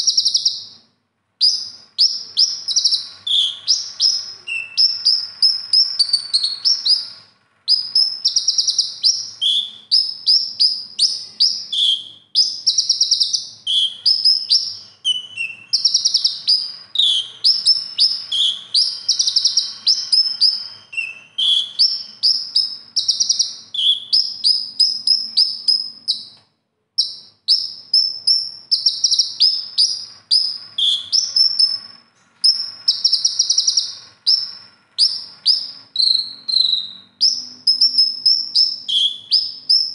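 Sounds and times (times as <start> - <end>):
sunbird twittering trills: 1.4 - 26.3, 27.0 - 39.9.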